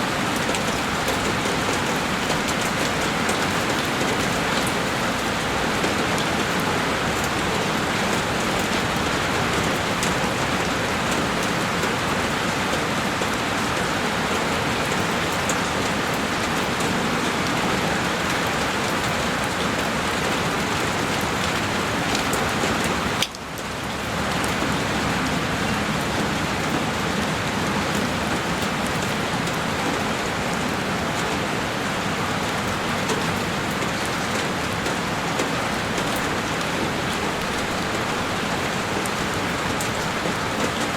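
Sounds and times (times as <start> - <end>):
heavy rain on a window: 0.0 - 40.9.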